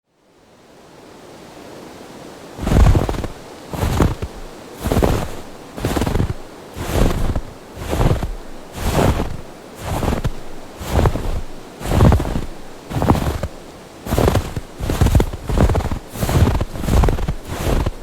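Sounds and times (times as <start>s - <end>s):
steady background hiss: 0.1s - 18.0s
footsteps crunching through snow: 2.6s - 18.0s.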